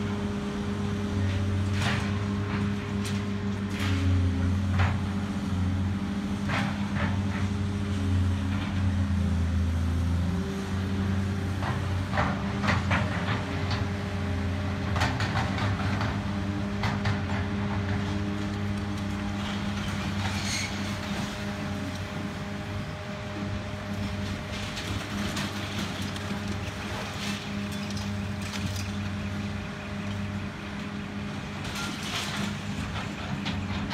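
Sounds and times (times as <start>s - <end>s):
excavator diesel engine: 0.0s - 33.9s.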